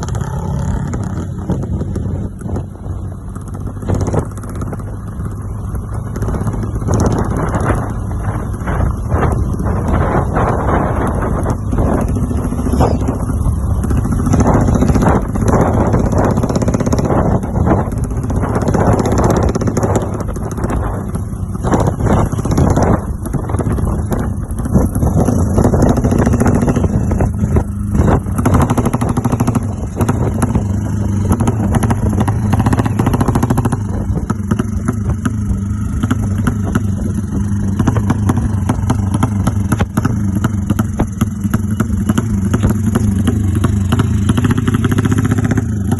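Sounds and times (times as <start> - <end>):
engine running loud: 0.0 - 45.9.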